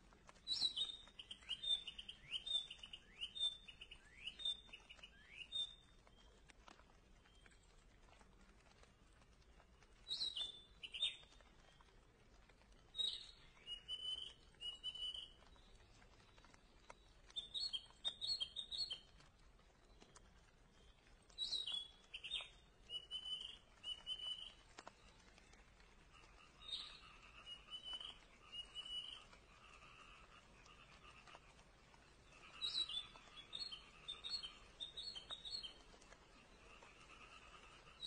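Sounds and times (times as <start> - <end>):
songbird singing: 0.2 - 38.0.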